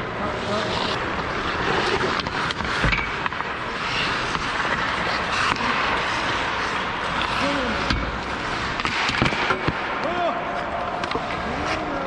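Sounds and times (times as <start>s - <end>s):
skates scraping on ice: 0.1s - 12.0s
hockey sticks clacking: 0.3s - 12.0s.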